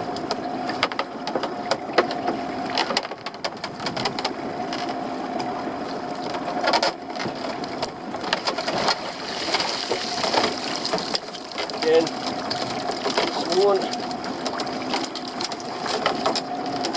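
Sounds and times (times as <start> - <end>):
boat motor running: 0.0 - 16.9
sharp clicks and knocks: 0.1 - 5.5, 6.2 - 16.9.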